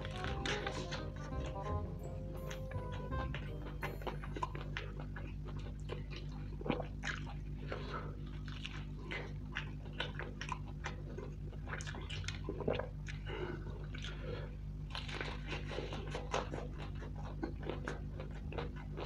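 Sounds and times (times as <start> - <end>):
crunching and chewing fried chicken: 0.0 - 19.0.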